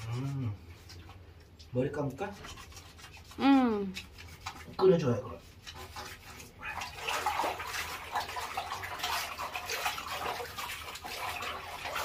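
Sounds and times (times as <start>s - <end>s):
water splashing in washbasin: 0.0s - 12.0s.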